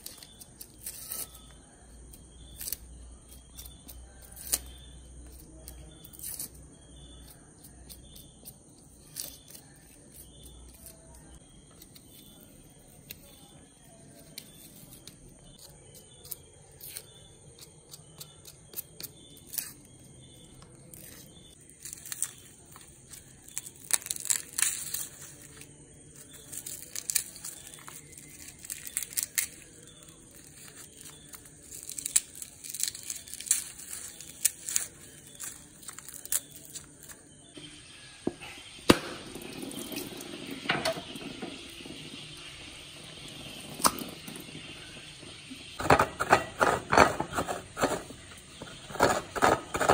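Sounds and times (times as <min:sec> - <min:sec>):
onion skins crackling and tearing: 0:00.0 - 0:37.6, 0:41.6 - 0:49.9.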